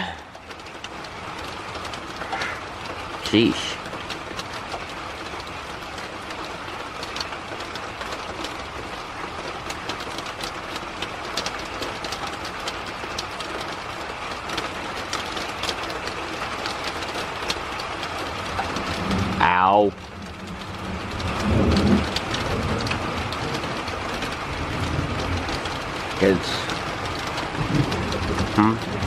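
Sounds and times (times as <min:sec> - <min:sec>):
rain falling with drop ticks: 0:00.0 - 0:29.0.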